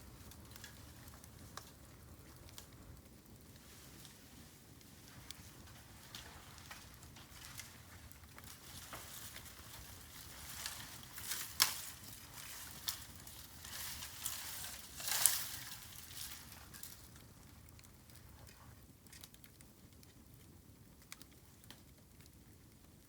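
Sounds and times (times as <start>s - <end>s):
bamboo fire crackling and popping: 0.0s - 23.0s.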